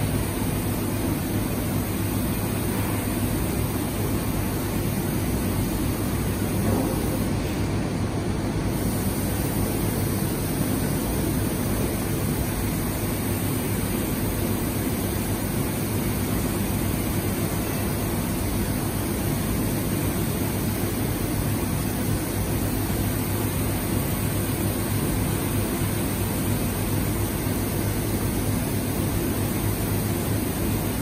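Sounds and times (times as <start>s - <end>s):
spray gun running: 0.0s - 7.7s, 8.7s - 31.0s
spray booth air extraction: 0.0s - 8.0s, 8.6s - 31.0s.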